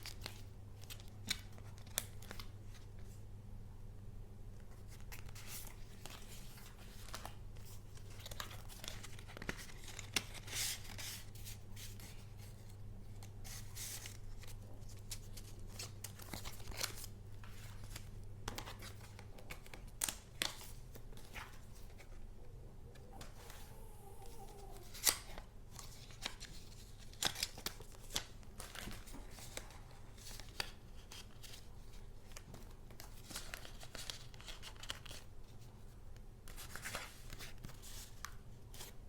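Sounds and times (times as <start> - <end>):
paper rustling and crinkling: 0.0 - 3.2, 4.6 - 22.3, 23.0 - 39.0
low steady hum: 0.0 - 39.0.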